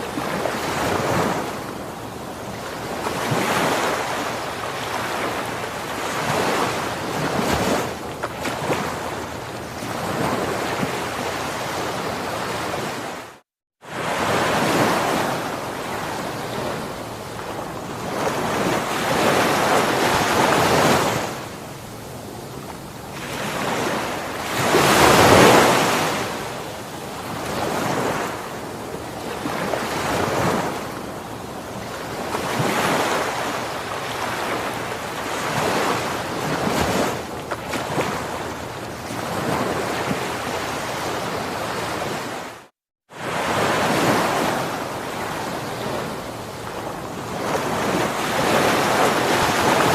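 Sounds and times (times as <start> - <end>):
ocean waves on shore: 0.0 - 49.9.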